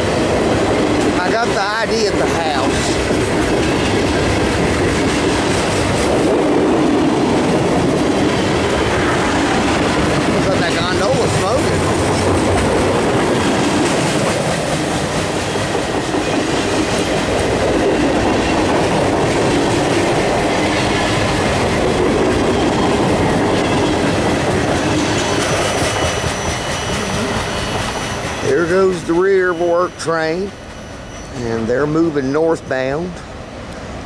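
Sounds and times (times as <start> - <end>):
train wheels clattering over rails: 0.0 - 32.5.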